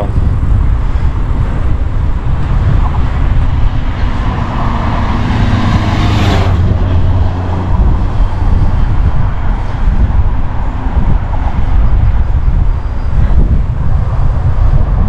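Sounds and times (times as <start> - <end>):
highway traffic: 0.0 - 15.0
wind rumble on microphone: 0.0 - 15.0
vehicle passing close by: 1.7 - 15.0.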